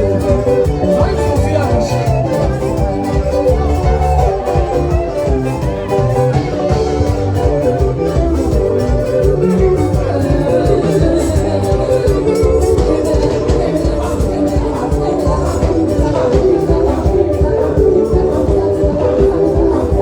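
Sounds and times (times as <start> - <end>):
live band playing dance music: 0.0 - 20.0.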